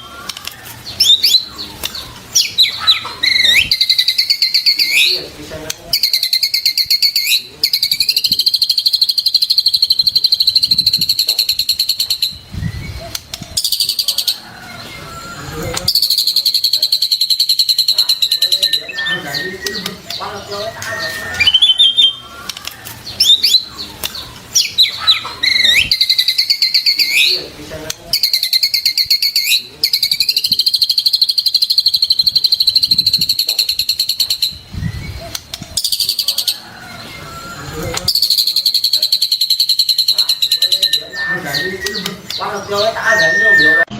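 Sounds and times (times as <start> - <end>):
songbird trilling: 0.0 - 27.5, 28.1 - 43.9.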